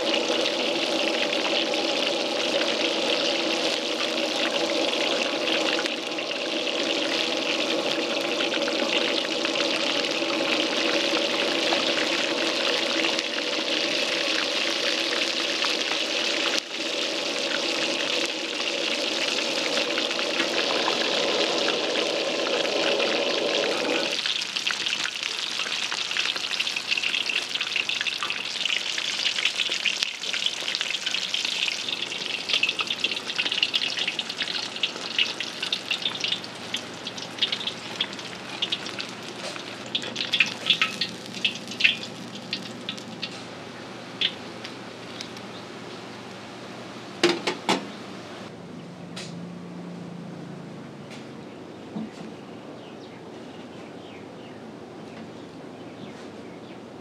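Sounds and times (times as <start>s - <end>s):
oil sizzling and crackling: 0.0s - 45.7s.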